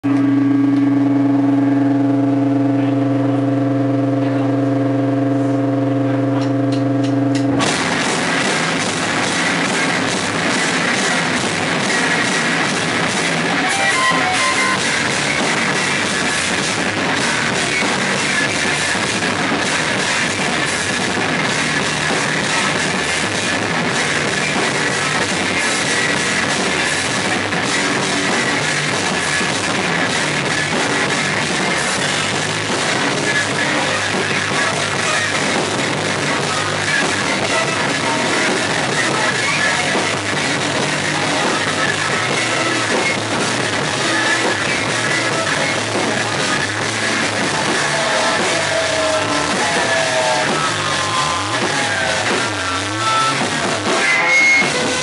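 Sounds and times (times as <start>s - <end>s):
loud rock band playing: 0.0s - 55.0s.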